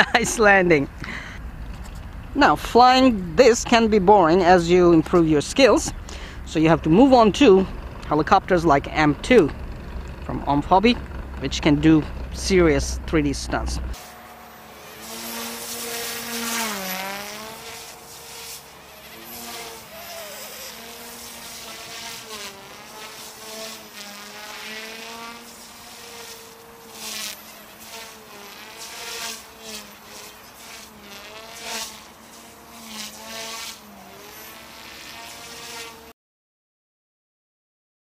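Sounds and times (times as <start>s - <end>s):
rc helicopter buzzing whine: 0.0s - 36.1s.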